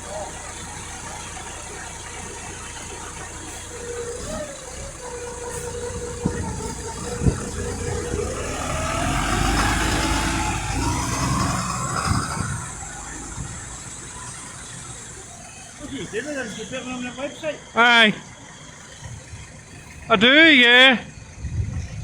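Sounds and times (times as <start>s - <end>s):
bus diesel engine: 0.0s - 22.0s.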